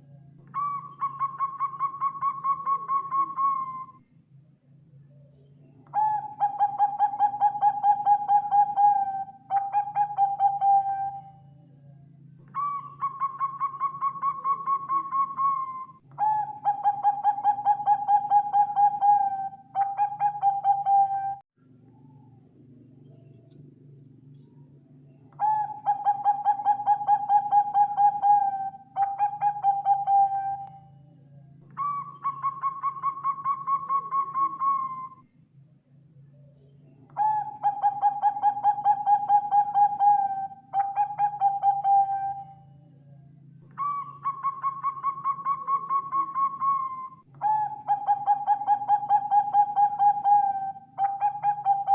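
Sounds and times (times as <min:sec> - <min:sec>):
dove cooing: 0:00.0 - 0:04.0, 0:05.9 - 0:11.5, 0:12.5 - 0:22.2, 0:25.4 - 0:31.0, 0:31.8 - 0:35.2, 0:37.2 - 0:42.7, 0:43.7 - 0:51.9
faint low hum: 0:00.0 - 0:51.9.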